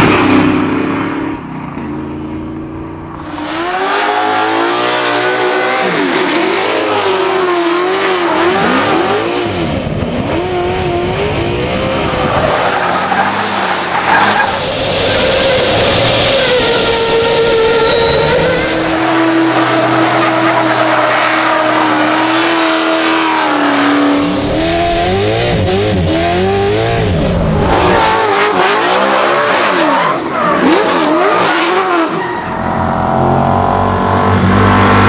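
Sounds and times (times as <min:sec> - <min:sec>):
car engine revving hard: 0:03.2 - 0:30.0, 0:30.6 - 0:35.0.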